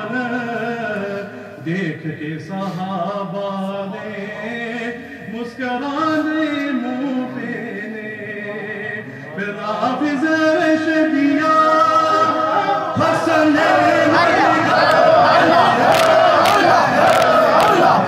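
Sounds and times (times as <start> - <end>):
men singing a devotional chant: 0.0 - 18.0.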